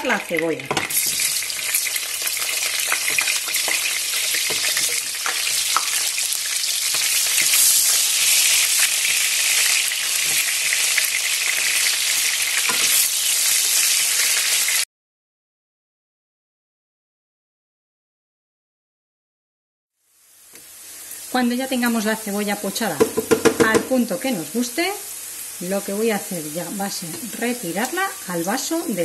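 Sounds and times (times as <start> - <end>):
onion sizzling in a pan: 0.0 - 14.9, 20.0 - 29.0.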